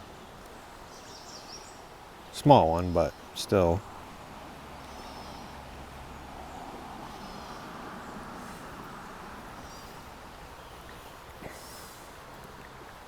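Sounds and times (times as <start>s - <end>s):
river water flowing over stones: 0.0s - 13.0s.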